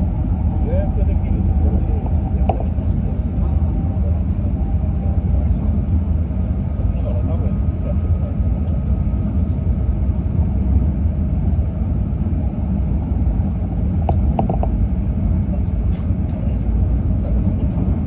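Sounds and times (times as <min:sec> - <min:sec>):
train rumble inside cabin: 0:00.0 - 0:18.0.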